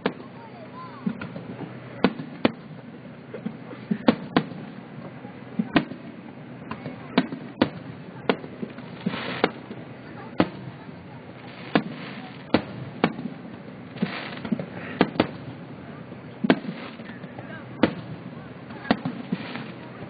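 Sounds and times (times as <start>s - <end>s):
background murmur: 0.0s - 20.0s
fireworks bursting: 0.0s - 20.0s.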